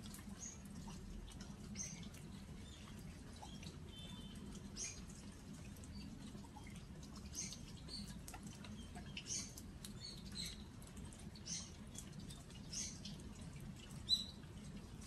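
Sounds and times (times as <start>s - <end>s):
rain pattering on earthenware jars: 0.0s - 15.0s.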